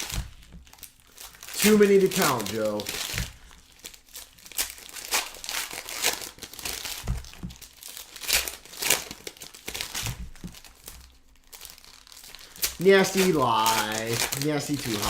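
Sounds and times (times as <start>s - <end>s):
card pack wrappers crinkling: 0.0s - 15.0s.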